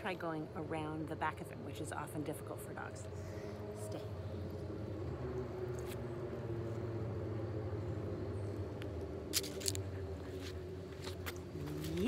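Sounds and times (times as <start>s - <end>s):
passing vehicle engine humming: 0.0s - 12.0s.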